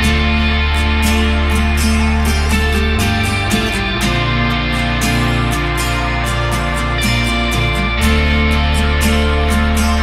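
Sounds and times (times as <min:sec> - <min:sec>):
plucked guitar: 0:00.0 - 0:10.0
sustained bass: 0:00.0 - 0:10.0.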